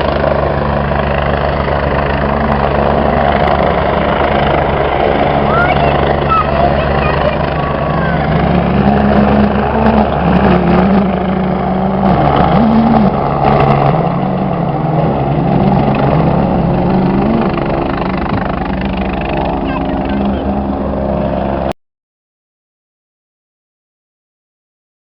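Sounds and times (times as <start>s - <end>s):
engine revving up and down: 0.0s - 21.7s
low engine rumble: 0.0s - 21.7s.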